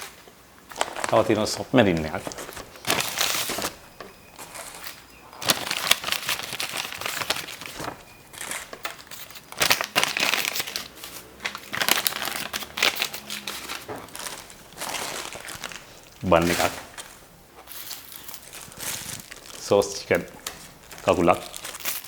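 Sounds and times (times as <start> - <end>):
paper packaging crinkling: 0.0 - 22.0.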